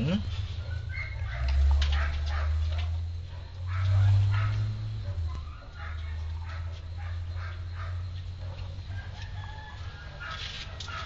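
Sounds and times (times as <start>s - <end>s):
steady low hum: 0.0s - 11.0s
rooster crowing: 0.6s - 11.0s.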